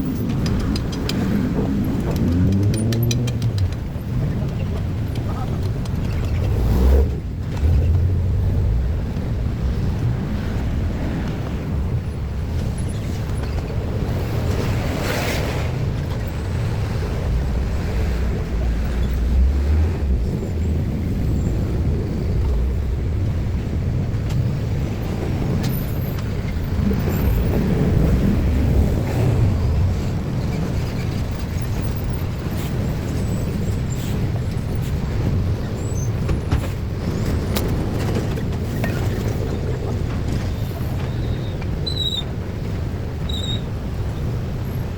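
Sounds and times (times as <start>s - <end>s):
traffic rumble: 0.0s - 44.9s.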